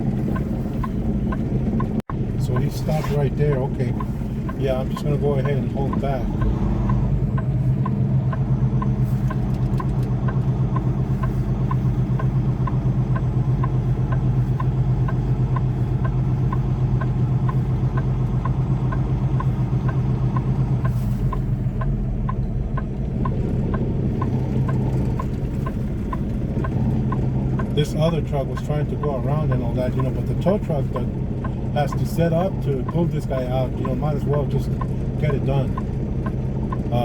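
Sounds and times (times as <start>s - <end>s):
diesel truck engine idling: 0.0s - 37.0s
light ticking: 0.1s - 37.0s.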